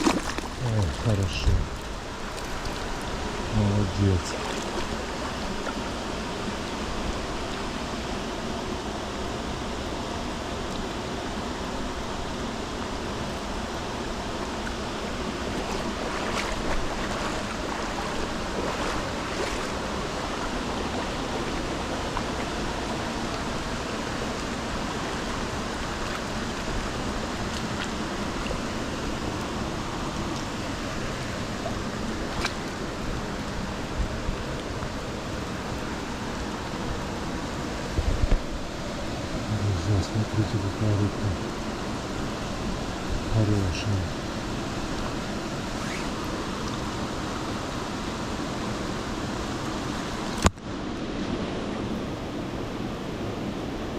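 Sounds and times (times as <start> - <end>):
stream water flowing: 0.0 - 53.9.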